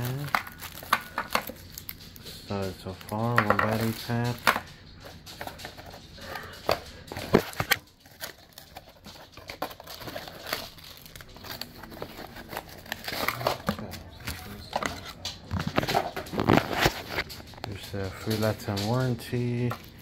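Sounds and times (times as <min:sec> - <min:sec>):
paper and plastic crinkling: 0:00.0 - 0:20.0.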